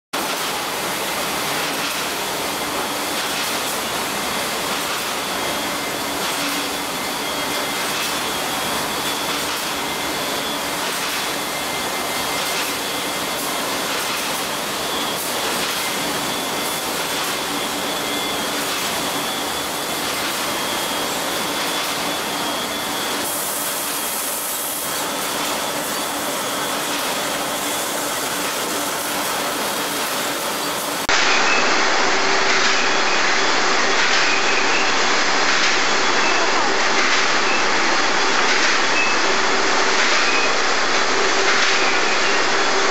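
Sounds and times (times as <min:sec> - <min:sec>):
factory machinery drone: 0:00.2 - 0:42.9.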